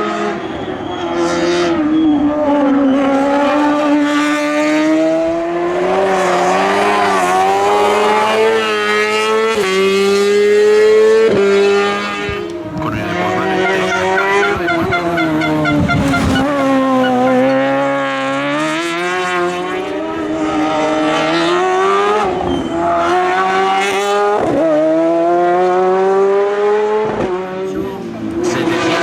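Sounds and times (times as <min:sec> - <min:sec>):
racing car engine at high revs: 0:00.0 - 0:29.0.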